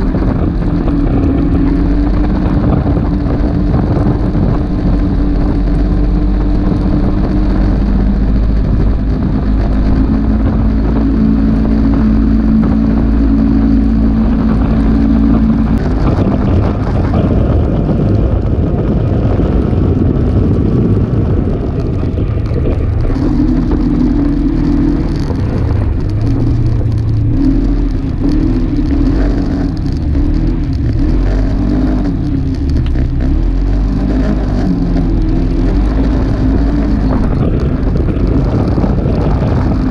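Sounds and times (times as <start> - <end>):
constant rushing noise: 0.0 - 39.9
single-cylinder engine running: 0.0 - 39.9.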